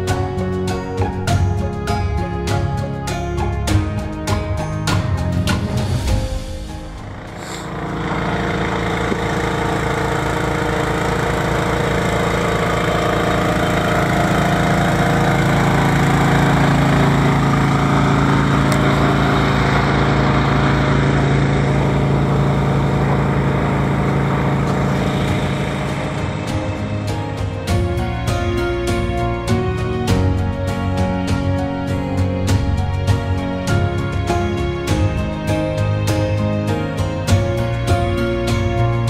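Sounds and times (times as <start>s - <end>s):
generator humming: 0.0s - 39.0s.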